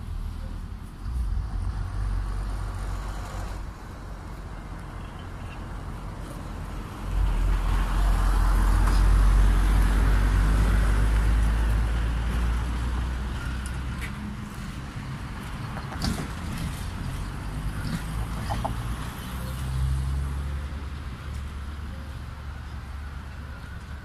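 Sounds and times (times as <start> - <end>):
tram passing on rails: 0.0 - 24.0.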